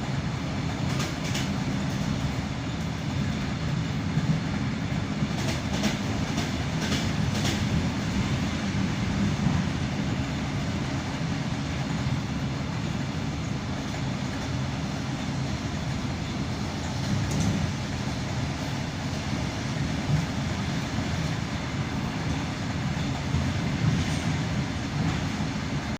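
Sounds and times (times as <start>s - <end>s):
electric train rumbling: 0.0s - 25.9s.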